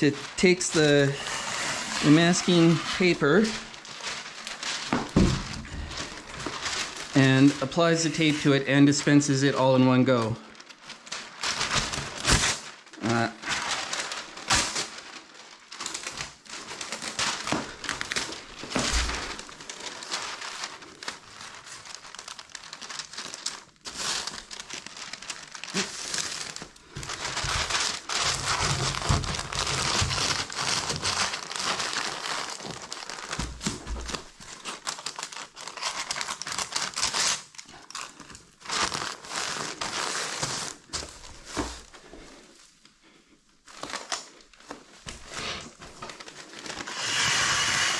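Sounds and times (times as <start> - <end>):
paper crinkling and tearing: 0.0 - 47.9.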